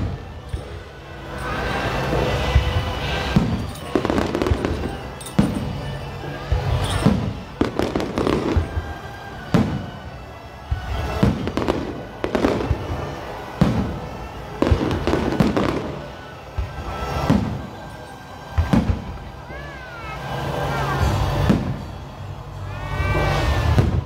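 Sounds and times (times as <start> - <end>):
firework shells booming: 0.0 - 19.4
background music: 0.0 - 24.0.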